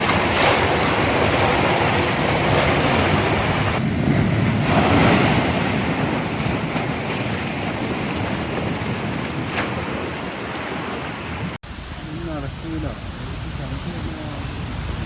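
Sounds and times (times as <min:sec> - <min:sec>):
gusty wind buffeting microphone: 0:00.0 - 0:15.0
rushing water: 0:00.0 - 0:15.0.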